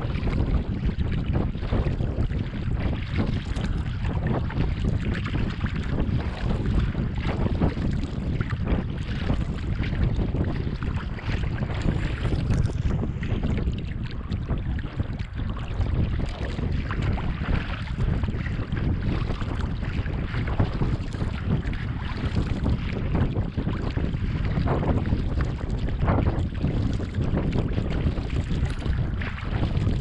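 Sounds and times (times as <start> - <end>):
water splashing around kayak: 0.0 - 30.0
wind buffeting microphone: 0.0 - 30.0.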